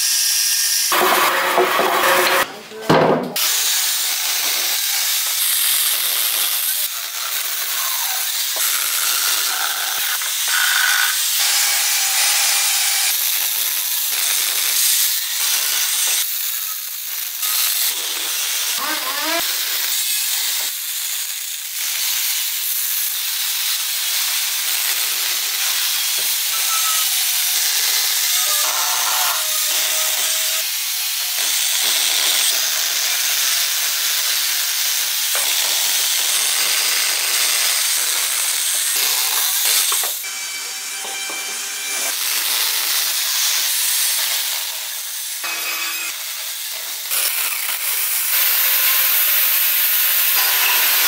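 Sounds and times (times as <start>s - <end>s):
chainsaw grinder cutting wood: 0.0s - 51.0s.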